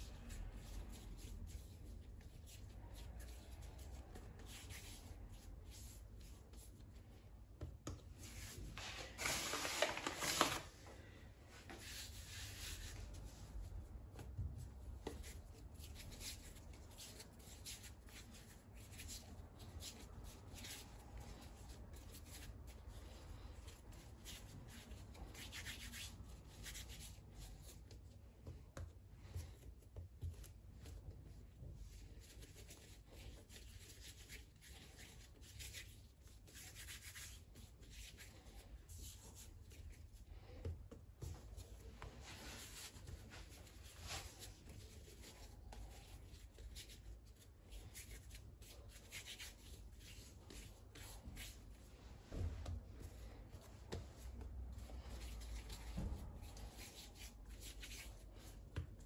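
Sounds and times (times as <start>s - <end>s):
hands kneading bread dough: 0.0s - 59.0s.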